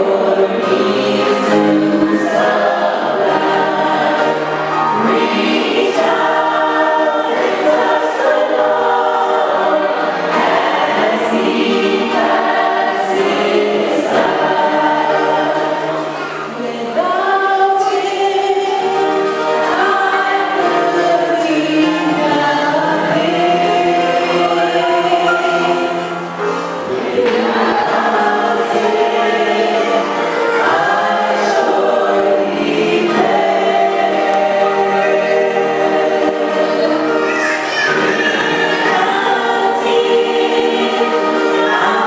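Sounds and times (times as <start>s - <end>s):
choir singing in harmony: 0.0s - 42.0s.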